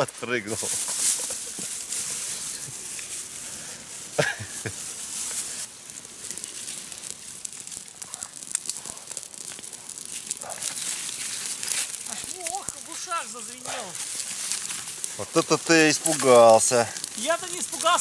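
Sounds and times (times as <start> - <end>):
dense sharp crackles: 0.0 - 18.0.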